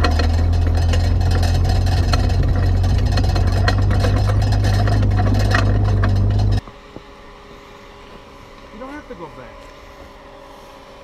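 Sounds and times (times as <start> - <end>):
gravel crackling under tyres: 0.0 - 10.8
car engine and tyres droning: 0.0 - 11.0.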